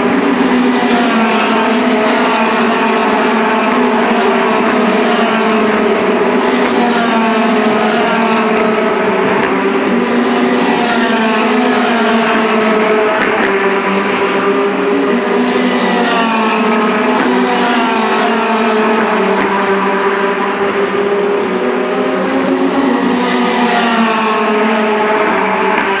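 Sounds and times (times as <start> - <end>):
race car engines revving: 0.0 - 26.0.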